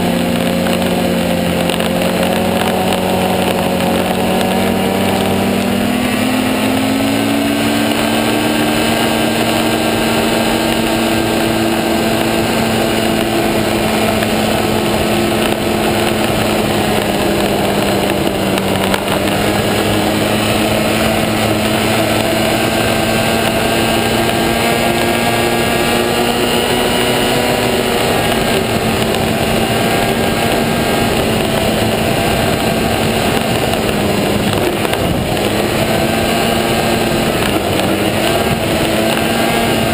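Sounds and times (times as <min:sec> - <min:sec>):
constant rush of noise: 0:00.0 - 0:39.9
snowmobile engine: 0:00.0 - 0:39.9.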